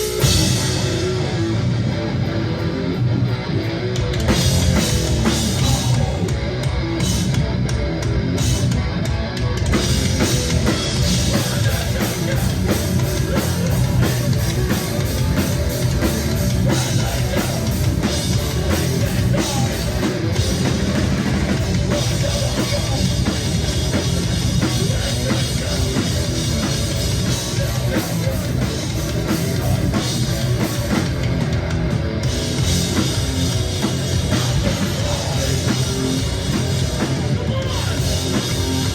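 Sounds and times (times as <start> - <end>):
drum kit pounding: 0.0 - 38.9
electric guitar: 0.0 - 38.9.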